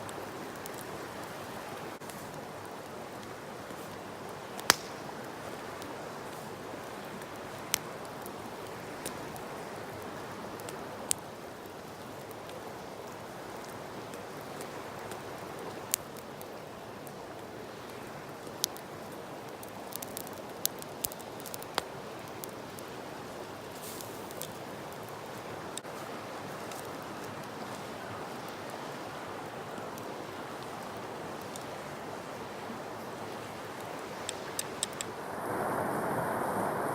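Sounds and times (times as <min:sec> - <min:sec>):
campfire crackling: 0:00.0 - 0:36.9
flowing river water: 0:00.0 - 0:36.9.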